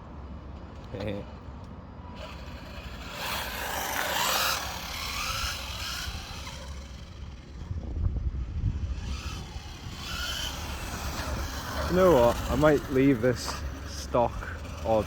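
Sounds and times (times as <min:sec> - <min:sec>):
electric motor whine: 0:02.2 - 0:15.0.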